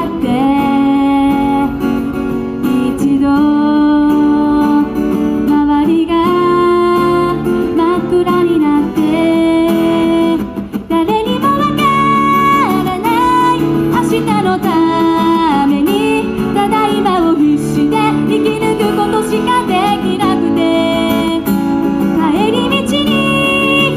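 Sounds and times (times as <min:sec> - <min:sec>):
acoustic guitar: 0:00.0 - 0:23.9
woman singing: 0:00.0 - 0:23.9.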